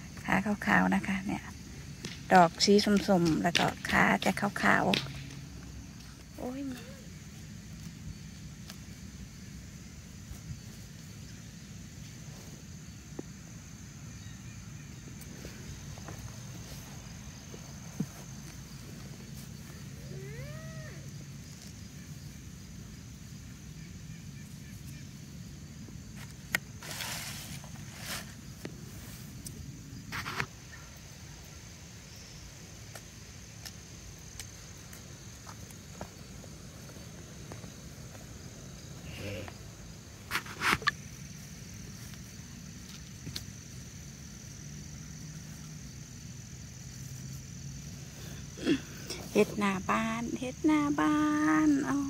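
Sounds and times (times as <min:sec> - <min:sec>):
high insect chorus: 0:00.0 - 0:52.0.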